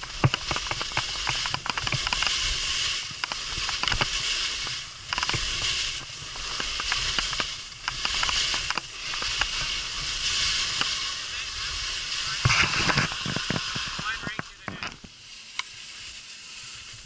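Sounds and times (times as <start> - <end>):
skis hissing over snow: 0.0 - 17.0.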